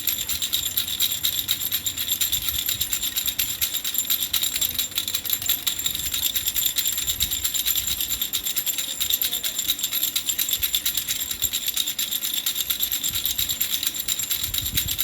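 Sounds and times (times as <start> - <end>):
baby's rattle shaken: 0.0 - 15.0.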